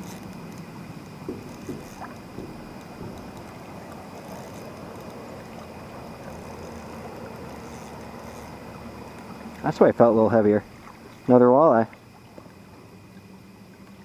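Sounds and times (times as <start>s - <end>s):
river water flowing: 0.0s - 14.0s
short splashes: 0.0s - 14.0s.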